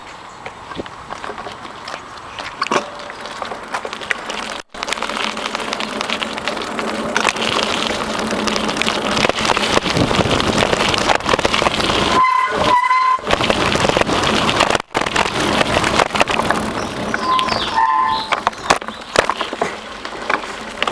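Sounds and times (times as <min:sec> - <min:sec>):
bicycle rolling rattle: 0:00.0 - 0:20.9
wind: 0:00.0 - 0:20.9.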